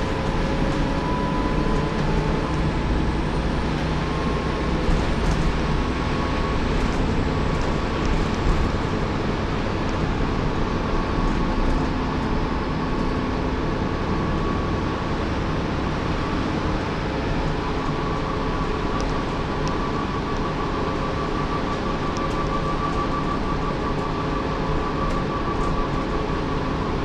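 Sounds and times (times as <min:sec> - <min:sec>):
bus engine and road noise: 0:00.0 - 0:27.0
high whine: 0:00.0 - 0:27.0.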